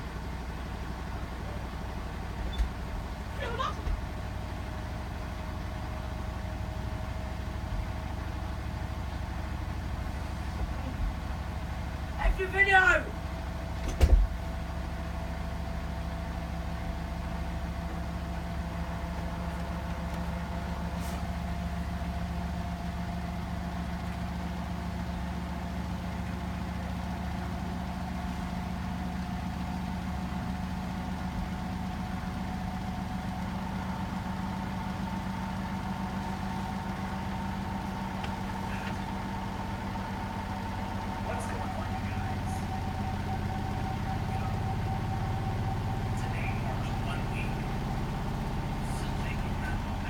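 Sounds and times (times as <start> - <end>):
washing machine motor hum: 0.6 - 50.0.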